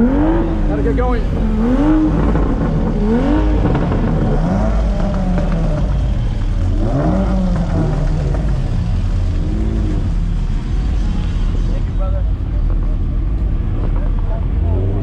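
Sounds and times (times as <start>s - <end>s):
car engine revving: 0.0s - 15.0s
low exhaust rumble: 0.0s - 15.0s.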